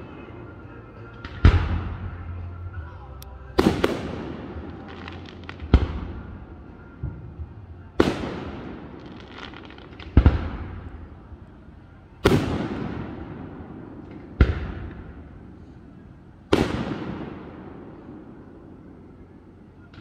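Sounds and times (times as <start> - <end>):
faint firework crackles: 3.5 - 20.0.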